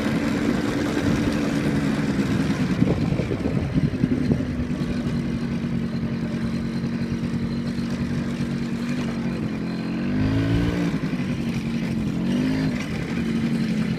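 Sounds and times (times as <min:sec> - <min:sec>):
vehicle engine revving: 0:00.0 - 0:13.9.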